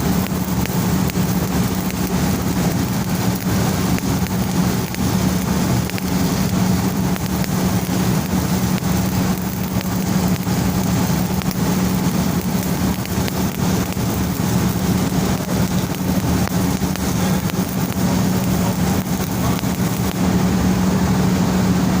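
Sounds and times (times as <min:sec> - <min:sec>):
welding arc crackling: 0:00.0 - 0:21.9
low hum: 0:00.0 - 0:22.0.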